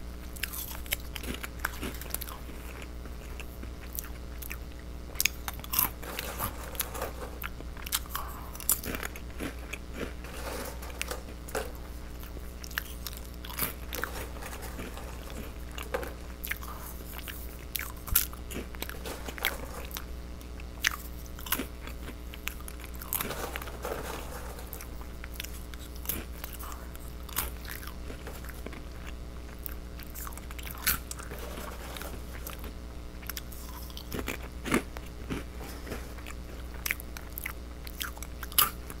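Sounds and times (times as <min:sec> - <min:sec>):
steady low hum: 0:00.0 - 0:39.0
crunching and chewing crackers: 0:00.1 - 0:39.0.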